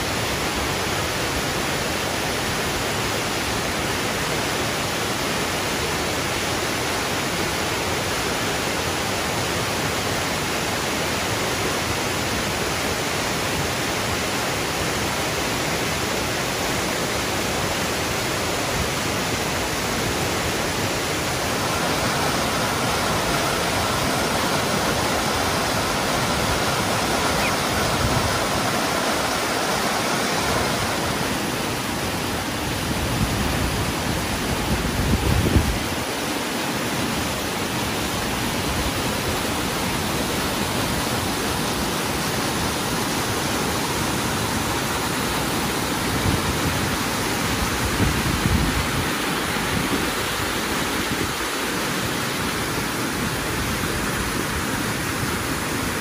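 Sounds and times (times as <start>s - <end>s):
waterfall and rapids rushing: 0.0s - 56.0s.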